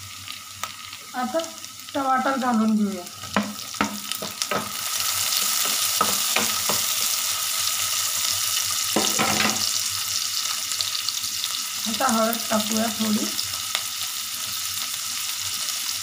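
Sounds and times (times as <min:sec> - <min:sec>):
tomatoes sizzling in a frying pan: 0:00.0 - 0:16.0.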